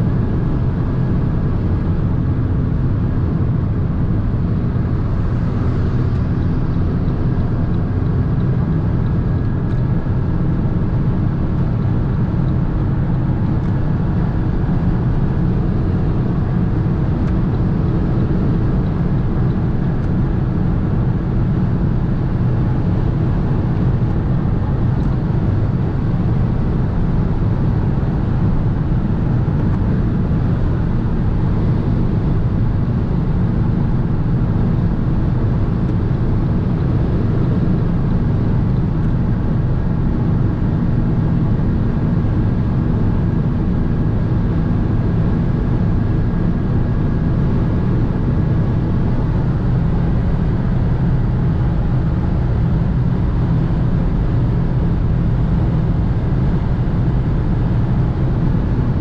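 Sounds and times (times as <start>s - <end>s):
car engine drone: 0.0s - 59.0s
road and tyre noise: 0.0s - 59.0s.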